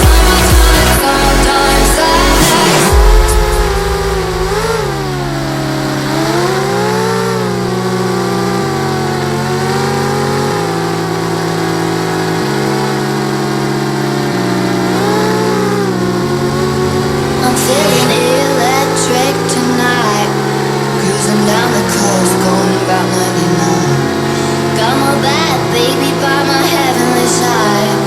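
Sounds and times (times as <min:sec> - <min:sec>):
electronic music with bass: 0:00.0 - 0:28.0
quadcopter motors whining: 0:00.0 - 0:28.0.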